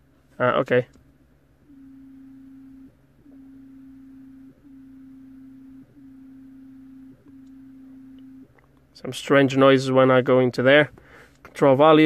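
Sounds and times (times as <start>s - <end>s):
steady pure tone hum: 0.0s - 12.0s.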